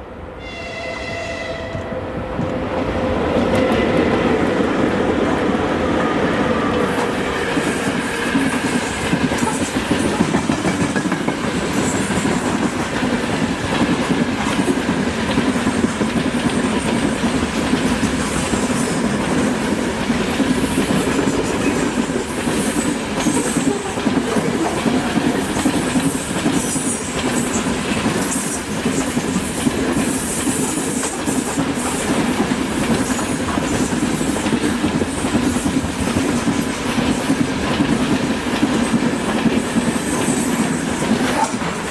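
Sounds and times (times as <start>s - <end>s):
train wagons rumbling and clattering: 1.6s - 41.9s.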